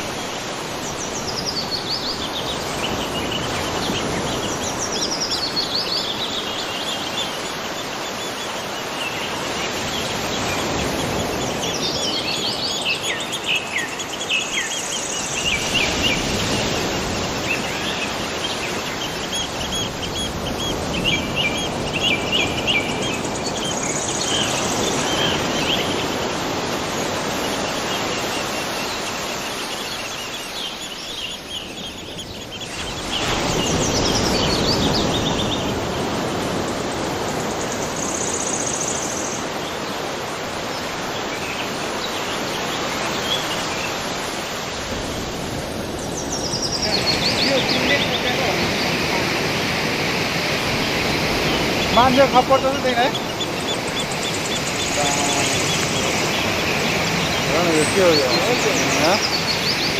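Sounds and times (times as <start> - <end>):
small birds chirping: 0.0 - 59.9
waterfall rushing: 0.0 - 59.9.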